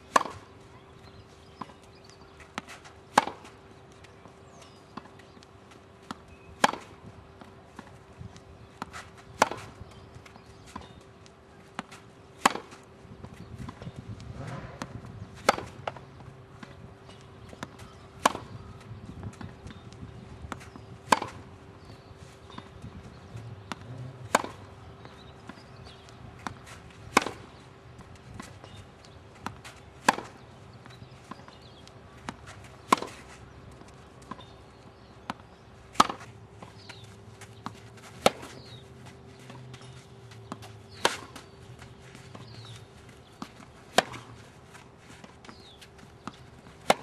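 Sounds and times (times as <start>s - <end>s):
tennis racket hitting ball: 0.1s - 0.5s, 2.4s - 3.6s, 6.0s - 8.0s, 8.6s - 11.0s, 11.6s - 19.8s, 20.4s - 27.6s, 29.4s - 47.0s.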